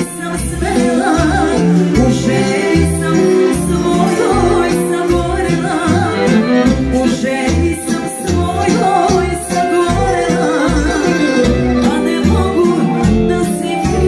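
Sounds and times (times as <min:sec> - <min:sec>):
bass line: 0:00.0 - 0:14.0
electronic accordion melody: 0:00.0 - 0:14.0
woman singing with vibrato: 0:00.0 - 0:14.0.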